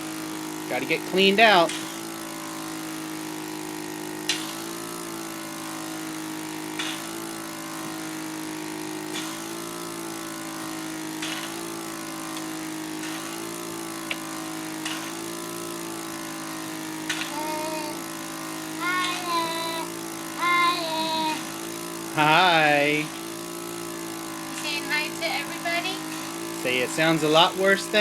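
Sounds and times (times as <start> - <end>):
suction pump humming: 0.0 - 28.0.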